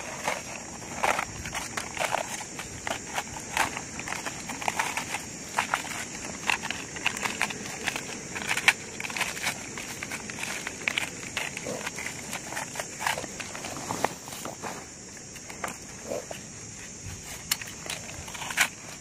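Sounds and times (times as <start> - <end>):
crackling and rustling of papery nest: 0.0 - 19.0
steady high hiss: 0.0 - 19.0.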